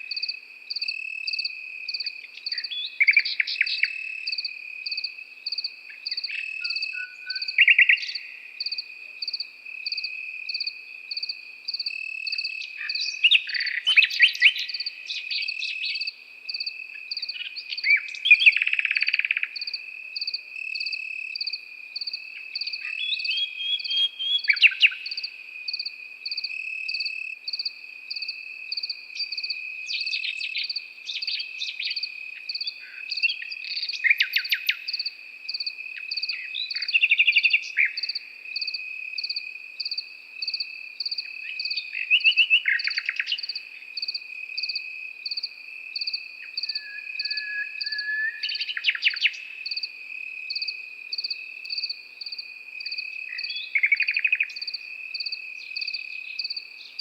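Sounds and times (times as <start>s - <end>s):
crickets chirping: 0.0s - 57.0s
nightingale singing: 0.0s - 57.0s.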